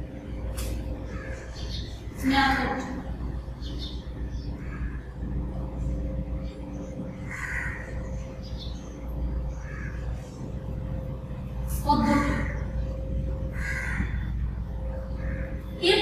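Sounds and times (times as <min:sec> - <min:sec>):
faint steady whine: 0:00.0 - 0:16.0
low background hum: 0:00.0 - 0:16.0.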